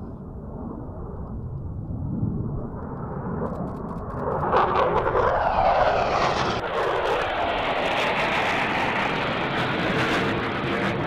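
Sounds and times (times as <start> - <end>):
jet engine noise: 0.0 - 11.0.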